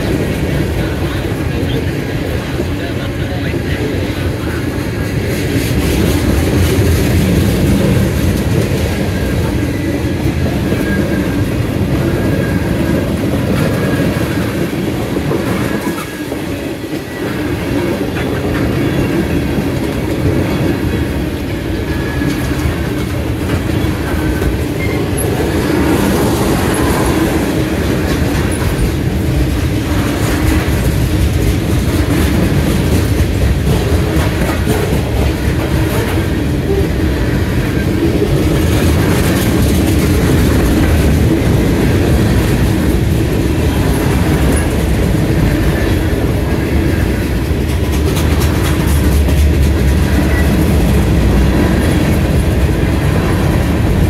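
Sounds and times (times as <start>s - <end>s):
freight train rolling past: 0.0s - 54.0s
wheels clacking over rail joints: 5.2s - 54.0s.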